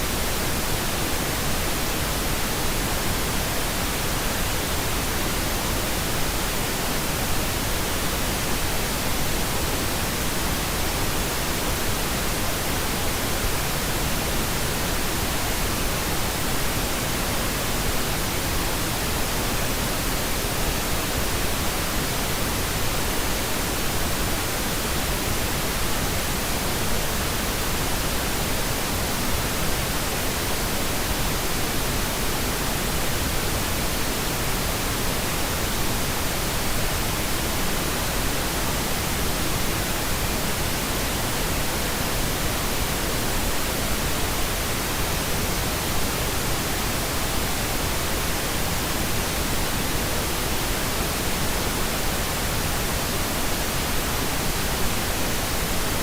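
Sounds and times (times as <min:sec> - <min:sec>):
white noise machine hiss: 0:00.0 - 0:56.0.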